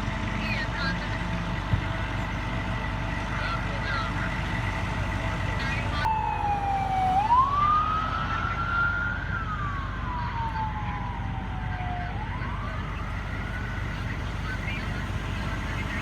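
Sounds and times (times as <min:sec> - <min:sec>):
emergency siren wailing: 0:00.0 - 0:16.0
low rumble of engines: 0:00.0 - 0:16.0.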